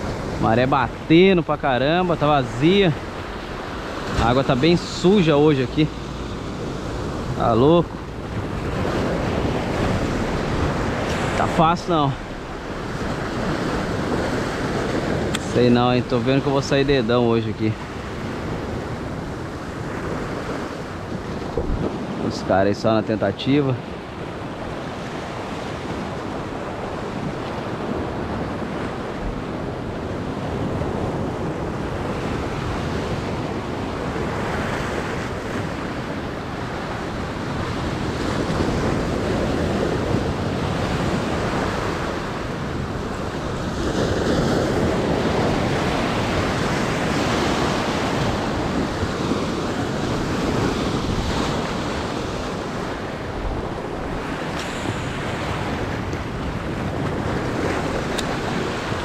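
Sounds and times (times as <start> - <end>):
wind on microphone: 0.0 - 22.7, 23.8 - 59.0
sea waves breaking over rocks: 0.0 - 59.0.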